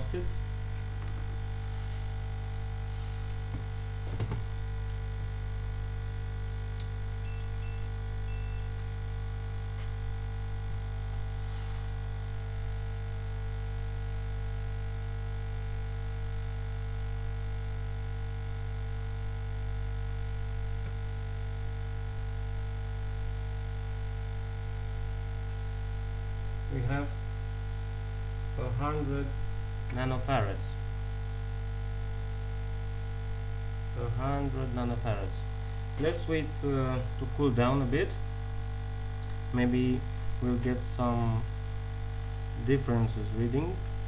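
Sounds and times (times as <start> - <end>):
electrical mains hum: 0.0 - 44.0.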